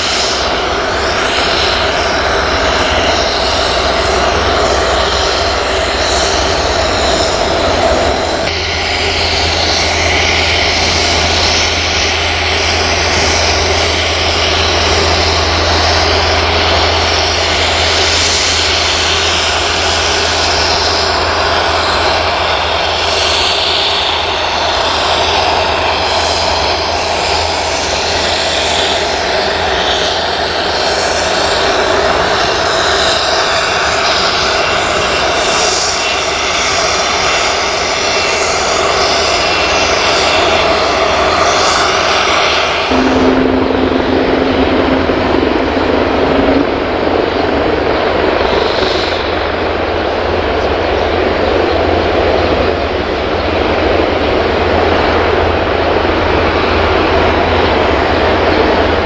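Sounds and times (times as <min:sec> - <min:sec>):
jet engine whine and rush: 0:00.0 - 0:59.0.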